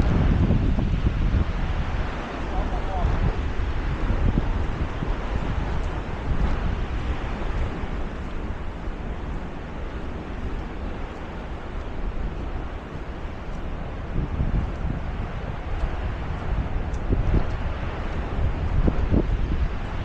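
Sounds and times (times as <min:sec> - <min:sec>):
waterfall roaring: 0:00.0 - 0:20.0
wind buffeting microphone: 0:00.0 - 0:20.0.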